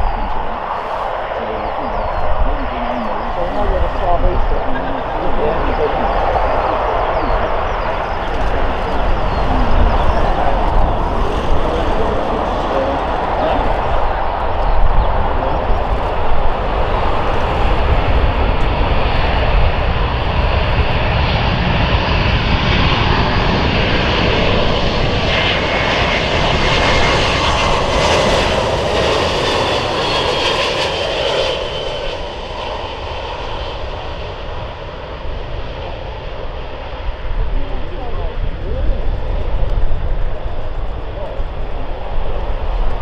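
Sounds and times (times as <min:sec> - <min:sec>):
loud jet rumble with high whine: 0:00.0 - 0:43.0.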